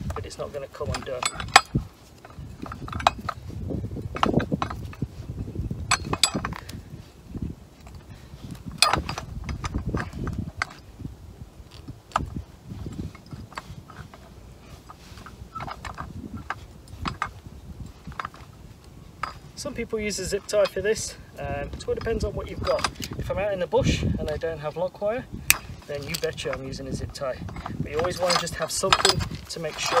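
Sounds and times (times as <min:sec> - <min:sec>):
wire clicking and clinking metal: 0:00.0 - 0:11.0, 0:11.6 - 0:23.3, 0:25.4 - 0:30.0.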